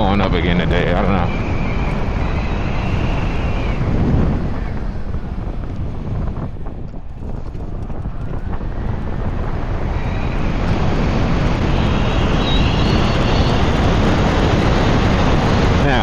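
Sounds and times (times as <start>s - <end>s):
electric motor whine: 0.0s - 16.0s
wind rushing over microphone: 0.0s - 16.0s.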